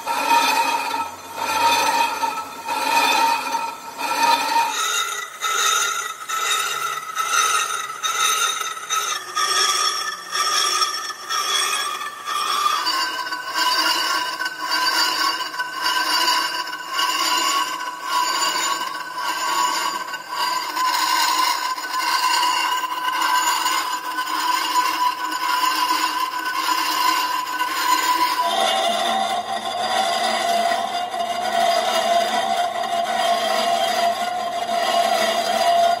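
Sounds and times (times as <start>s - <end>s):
lathe tool scraping metal: 0.0s - 36.0s.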